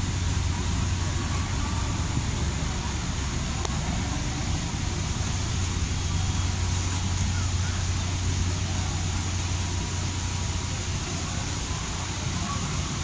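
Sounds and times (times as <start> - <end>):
cruise ship drone: 0.0 - 13.0
outdoor noise hiss: 0.0 - 13.0.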